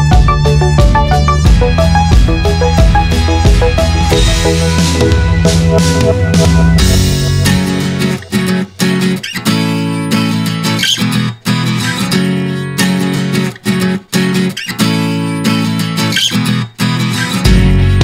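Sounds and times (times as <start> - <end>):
guitar strumming chords: 0.0 - 18.0.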